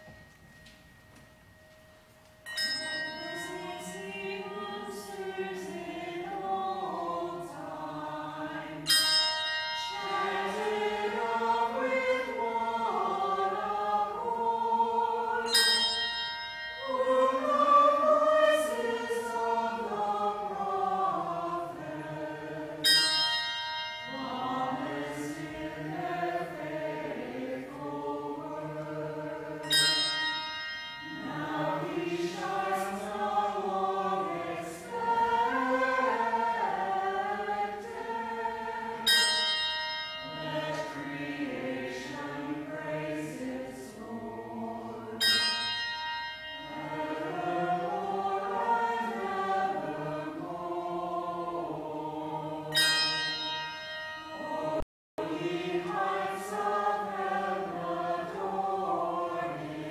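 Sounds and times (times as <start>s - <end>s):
church choir singing: 2.5s - 59.9s.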